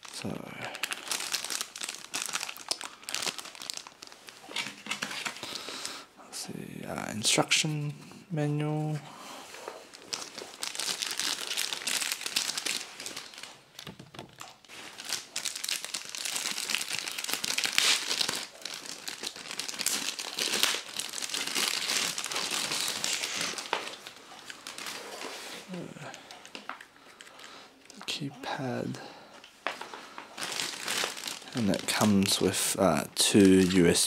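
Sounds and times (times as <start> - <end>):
packaging crinkling: 0.0 - 5.9, 9.6 - 28.0, 29.6 - 34.0.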